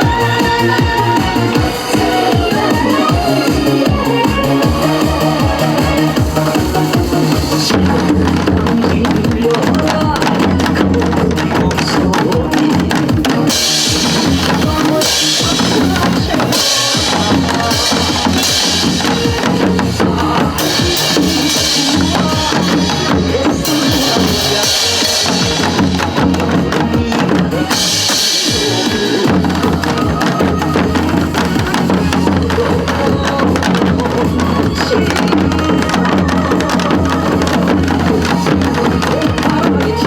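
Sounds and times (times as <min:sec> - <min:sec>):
group drumming: 0:00.0 - 0:40.0
recorded pop song: 0:00.0 - 0:40.0.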